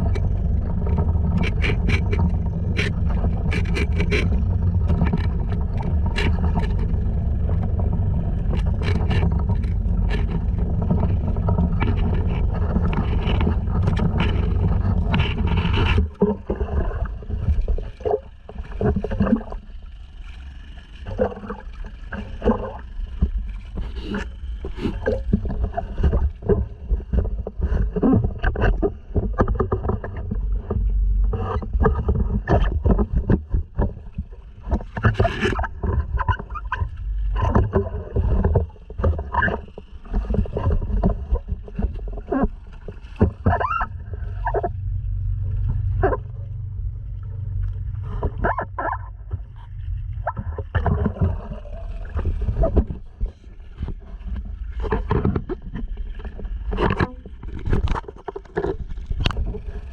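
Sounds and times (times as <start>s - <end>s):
outboard motor running: 0.0s - 59.9s
water splashing against hull: 0.0s - 59.9s.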